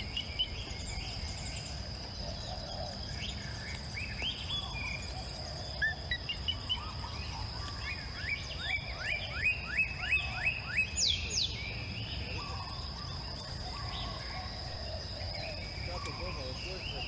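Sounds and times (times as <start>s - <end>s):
high insect drone: 0.0s - 17.0s
songbird singing: 0.0s - 17.0s.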